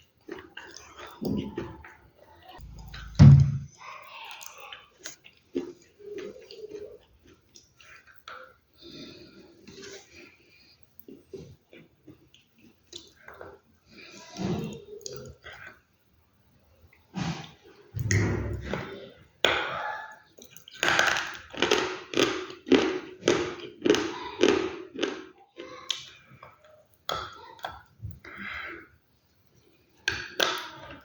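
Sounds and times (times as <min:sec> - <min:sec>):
chewing crunchy food: 0:00.0 - 0:03.2, 0:04.0 - 0:15.9, 0:16.8 - 0:31.0.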